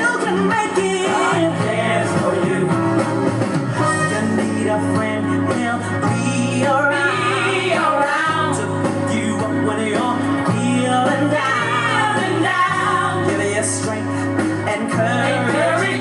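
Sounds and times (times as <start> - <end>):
gospel band playing: 0.0 - 16.0.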